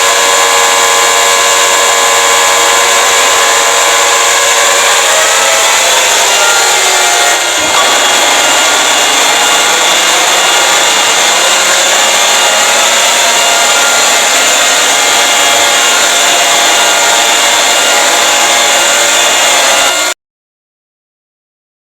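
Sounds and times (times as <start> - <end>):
distorted emergency alert alarm: 0.0 - 20.2.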